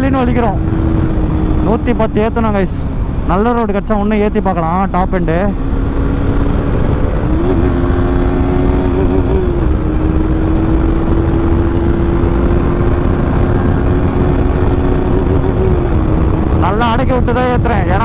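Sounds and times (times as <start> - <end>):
motorcycle engine cruising: 0.0 - 18.0
wind rushing over microphone: 0.0 - 18.0.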